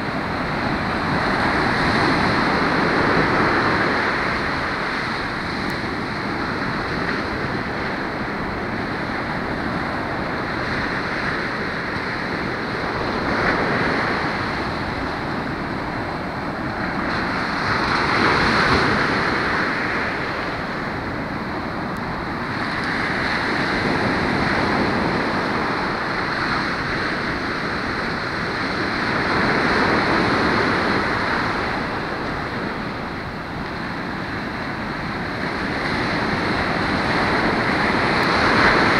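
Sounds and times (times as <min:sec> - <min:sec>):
waves breaking on sandy beach: 0:00.0 - 0:38.9.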